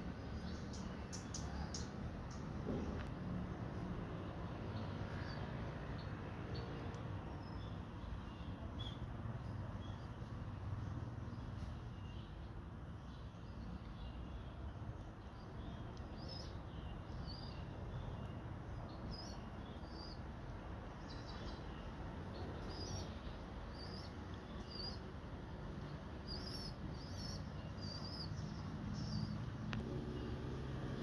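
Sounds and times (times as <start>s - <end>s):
small birds chirping: 0.0s - 3.1s, 3.8s - 31.0s
low background noise: 0.0s - 31.0s.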